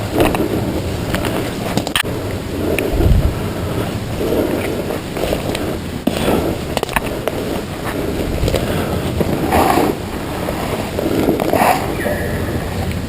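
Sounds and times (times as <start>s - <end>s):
rustling against microphone: 0.0s - 13.0s.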